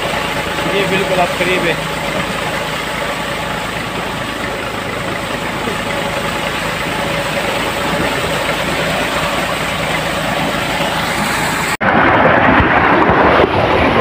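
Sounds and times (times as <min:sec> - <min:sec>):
water flowing down a channel: 0:00.0 - 0:14.0
water gushing into a tank: 0:00.0 - 0:14.0.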